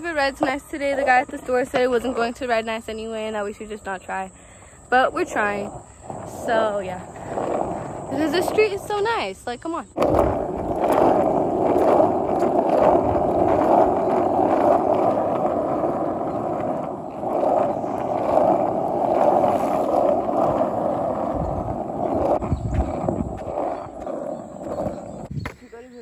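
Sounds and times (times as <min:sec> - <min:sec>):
skateboard wheels rumbling on asphalt: 0:00.0 - 0:26.0.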